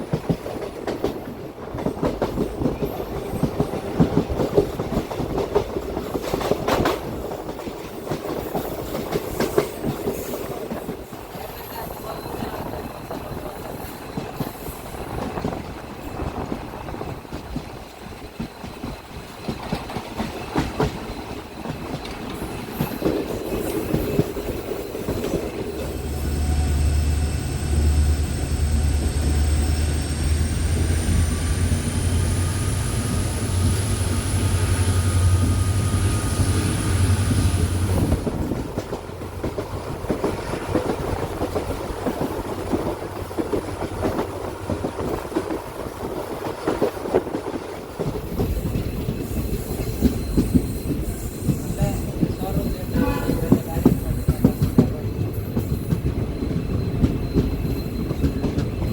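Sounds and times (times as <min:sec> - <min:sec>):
train wheels clicking on rails: 0:00.0 - 0:58.9.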